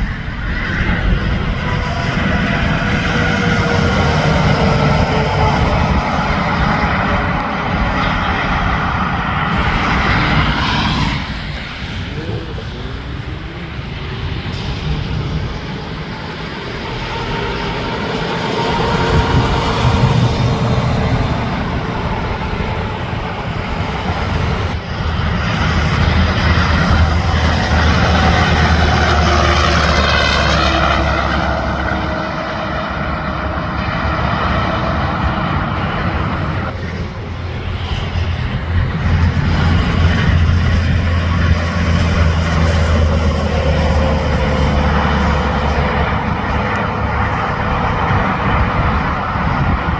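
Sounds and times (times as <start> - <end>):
highway traffic passing: 0.0 - 49.9.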